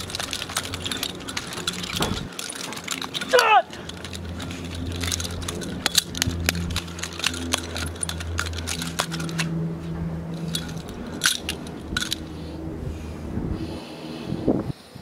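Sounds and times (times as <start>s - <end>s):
knives clicking and clinking: 0.0s - 12.4s
low steady drone: 0.0s - 15.0s.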